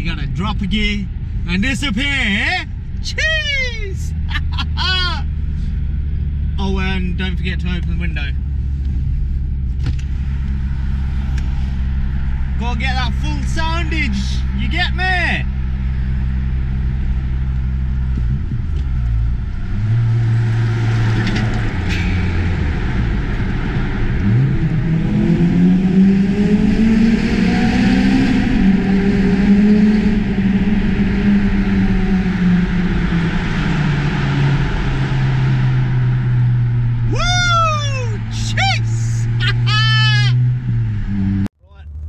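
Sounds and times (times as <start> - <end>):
car engine pulling hard: 0.0 - 42.0.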